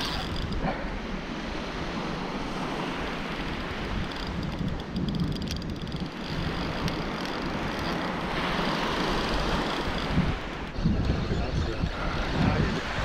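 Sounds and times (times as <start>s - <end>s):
ocean surf on beach: 0.0s - 13.0s
wind buffeting microphone: 0.0s - 13.0s.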